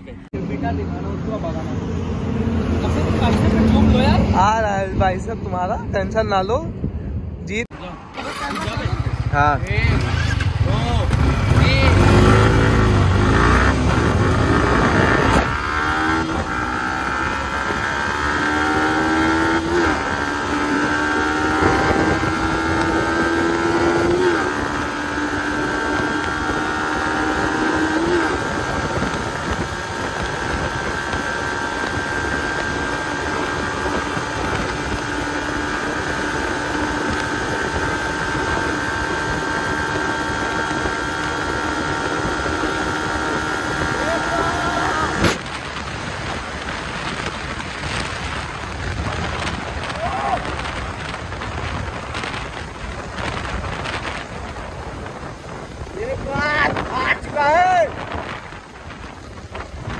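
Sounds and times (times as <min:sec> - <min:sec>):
motorcycle engine accelerating: 0:08.1 - 0:59.9.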